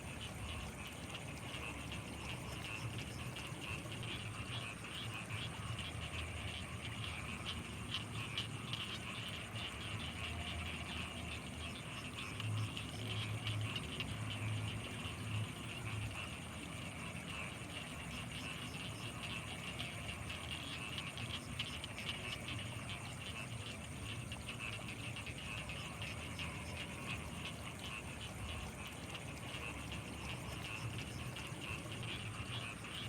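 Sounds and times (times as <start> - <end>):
frogs croaking: 0.0 - 33.0
insects chirping: 0.0 - 33.0.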